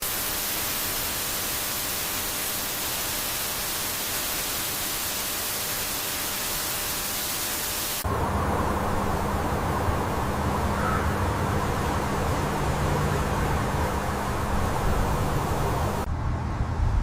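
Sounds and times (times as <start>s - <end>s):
static-like hiss: 0.0s - 16.1s.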